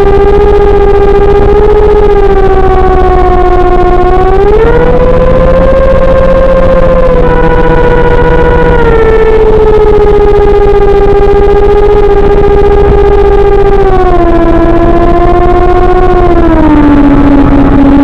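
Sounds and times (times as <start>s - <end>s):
model plane motor whining: 0.0s - 18.0s.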